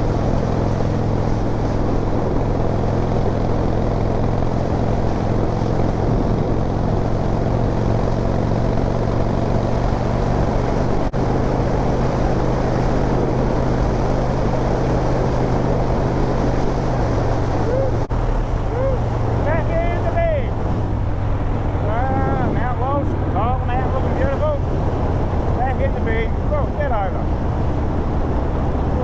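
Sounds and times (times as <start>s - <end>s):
motorcycle engine running: 0.0s - 29.0s
road noise: 0.0s - 29.0s.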